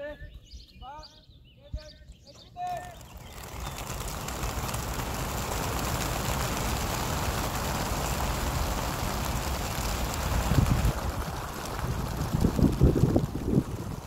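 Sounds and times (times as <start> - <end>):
pigeons wings flapping: 2.6 - 14.0.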